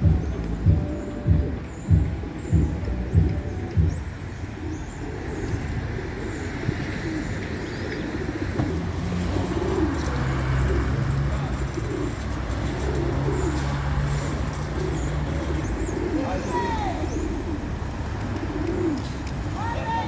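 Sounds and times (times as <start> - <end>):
pigeons cooing: 0.0 - 19.5.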